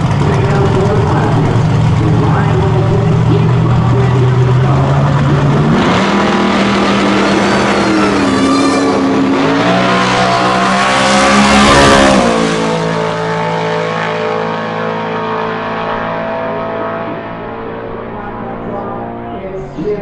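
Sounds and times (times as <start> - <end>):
truck engines revving high: 0.0 - 20.0.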